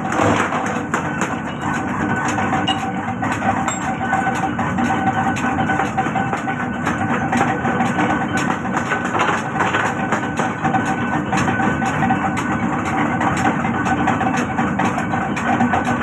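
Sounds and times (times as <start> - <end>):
loud machine noise: 0.0 - 16.0
rapid metallic knocks: 0.0 - 16.0.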